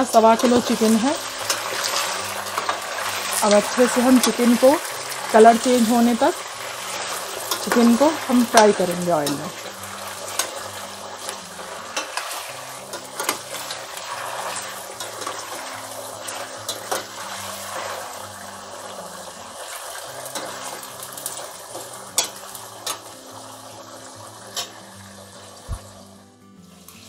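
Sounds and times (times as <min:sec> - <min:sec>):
chicken sizzling in oil: 0:00.0 - 0:27.0
spoon scraping a pan: 0:00.2 - 0:18.2, 0:19.6 - 0:23.2, 0:24.5 - 0:25.0.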